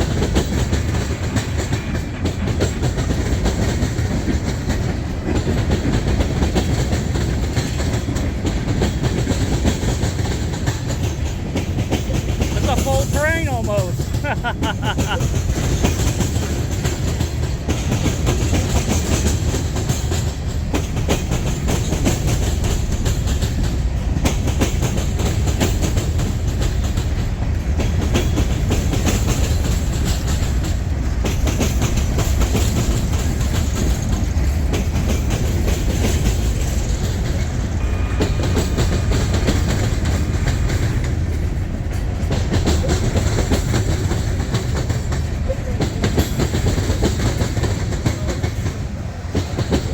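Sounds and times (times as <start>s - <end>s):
freight train rumbling: 0.0s - 49.9s
wheels clacking over rail joints: 0.0s - 49.9s.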